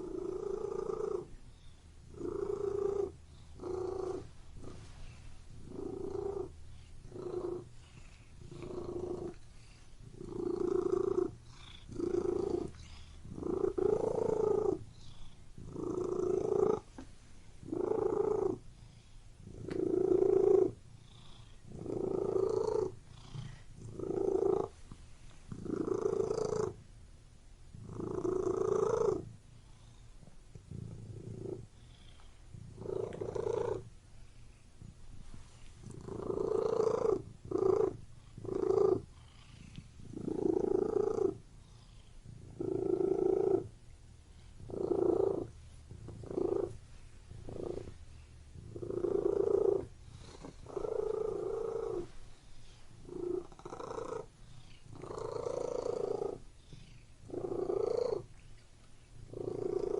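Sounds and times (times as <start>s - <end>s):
cat purring: 0.0s - 26.9s, 27.6s - 59.9s.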